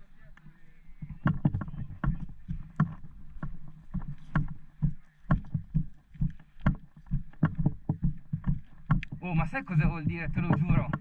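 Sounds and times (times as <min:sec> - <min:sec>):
footsteps on grass: 0:00.0 - 0:11.0.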